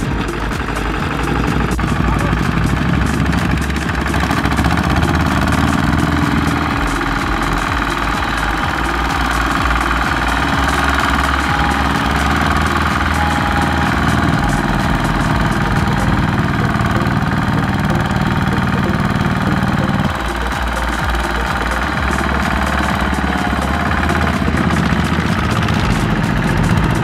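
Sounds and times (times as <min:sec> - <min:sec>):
diesel engine labouring: 0:00.0 - 0:27.0.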